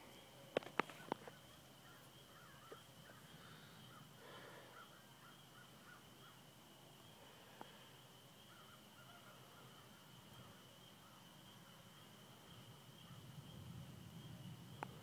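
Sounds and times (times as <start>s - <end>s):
faint bird chirps: 0.0s - 15.0s
steady high-pitched hum: 0.0s - 15.0s.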